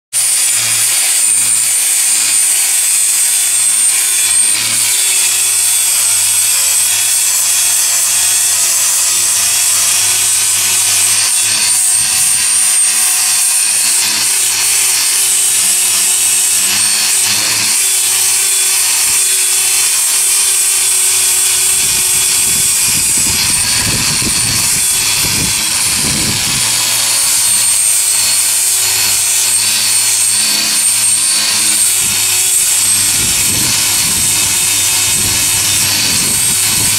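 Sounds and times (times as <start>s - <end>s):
angle grinder grinding wood: 0.1s - 36.9s.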